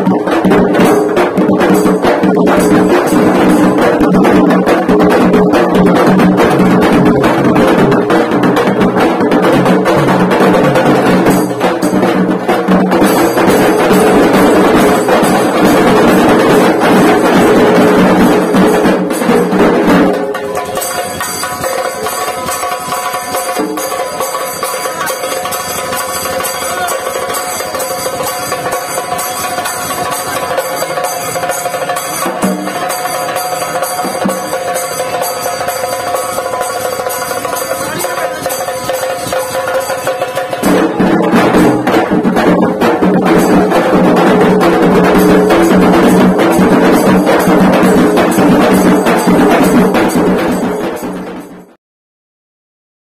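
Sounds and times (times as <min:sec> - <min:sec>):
barrel drums beating fast: 0:00.0 - 0:51.7.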